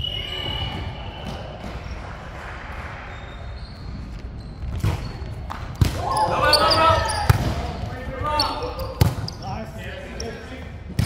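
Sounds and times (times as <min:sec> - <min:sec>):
echoing gym hall rumble: 0:00.0 - 0:11.0.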